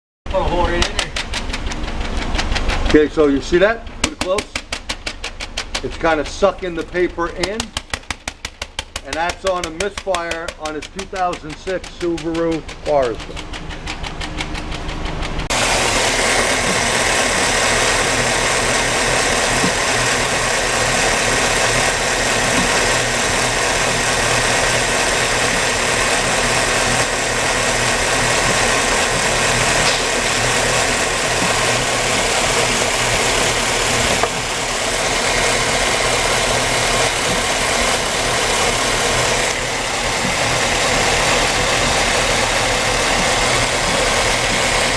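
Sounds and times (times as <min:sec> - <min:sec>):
car engine idling with misfire: 0:00.3 - 0:44.9.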